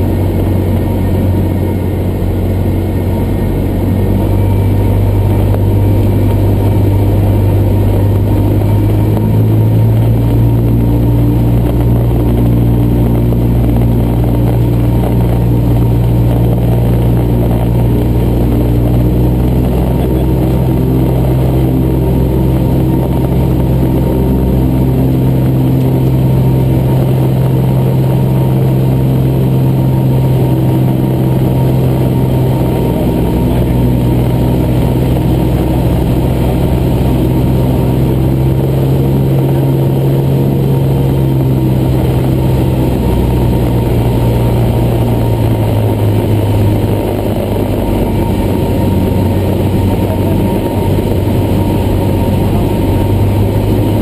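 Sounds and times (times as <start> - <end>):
airplane engine droning in cabin: 0.0 - 54.0.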